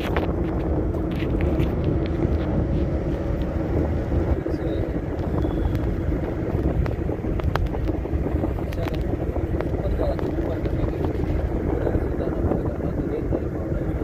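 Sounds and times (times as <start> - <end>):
constant hum: 0.0 - 14.0
vehicle cabin road rumble: 0.0 - 14.0.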